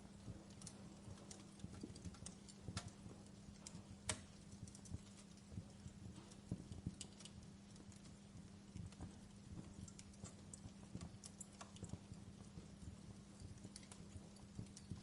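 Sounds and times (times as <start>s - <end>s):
campfire crackling: 0.0s - 15.0s
faint low hum: 0.0s - 15.0s.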